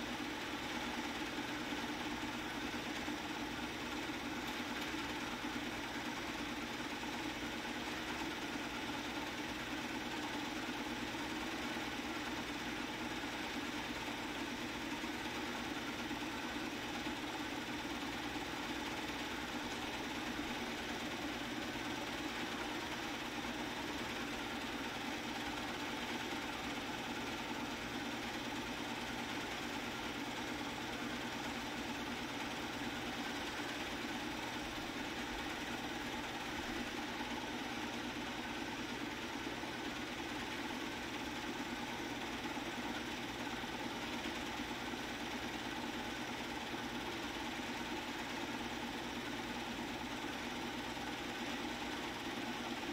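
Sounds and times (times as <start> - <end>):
film projector running: 0.0 - 52.9.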